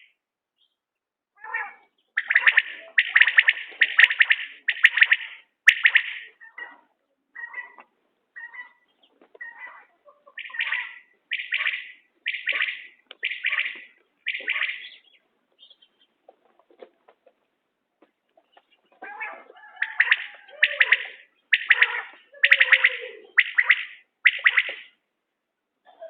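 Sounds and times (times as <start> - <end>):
quail calling: 1.4 - 16.6, 18.4 - 25.0.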